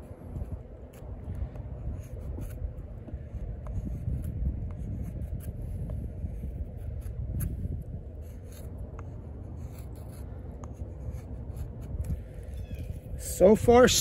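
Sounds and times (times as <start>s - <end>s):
knife scraping wood: 0.0s - 13.2s.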